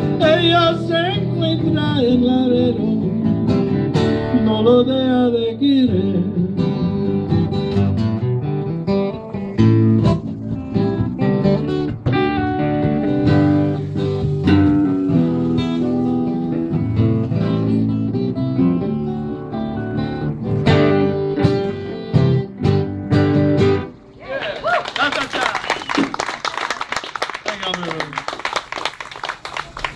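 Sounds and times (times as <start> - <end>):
instrumental guitar playing: 0.0 - 24.2.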